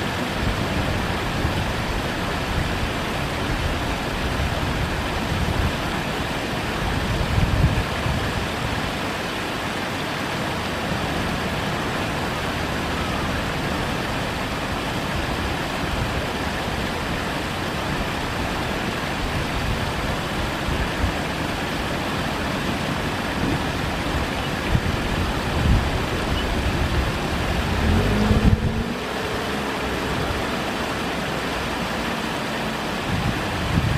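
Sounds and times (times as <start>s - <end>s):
rushing outdoor background noise: 0.0s - 33.9s.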